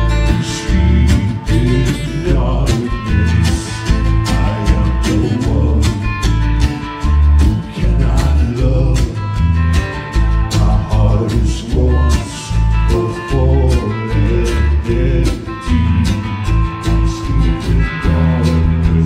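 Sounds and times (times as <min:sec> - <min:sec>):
electric bass: 0:00.0 - 0:19.0
electric guitar: 0:00.0 - 0:19.0
steady drum beat: 0:00.0 - 0:19.0
strummed acoustic guitar: 0:00.0 - 0:19.0.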